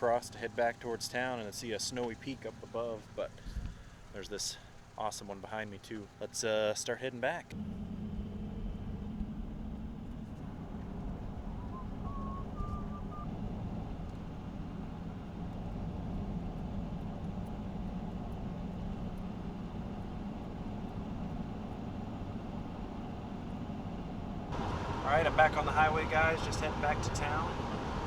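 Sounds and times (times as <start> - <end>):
vehicle engine and tyre rumble: 0.0 - 28.0.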